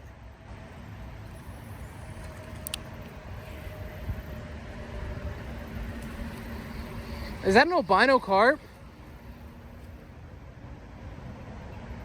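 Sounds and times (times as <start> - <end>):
faint steady hum: 0.0 - 12.0
low rumble of road traffic: 0.0 - 12.0.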